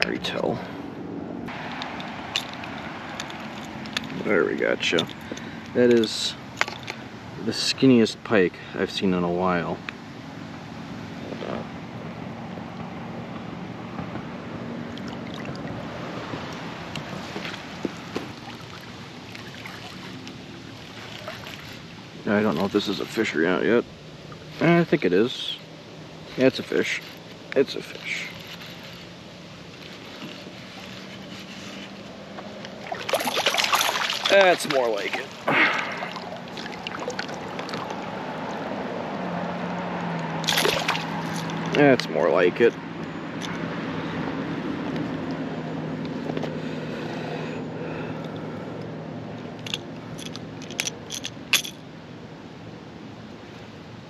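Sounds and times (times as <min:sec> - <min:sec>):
distant road traffic hum: 0:00.0 - 0:54.0.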